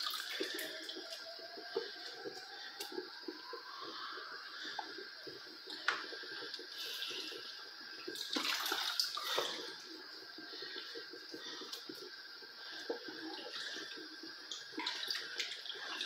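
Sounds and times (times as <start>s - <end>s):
soup boiling and bubbling: 0.0s - 16.0s.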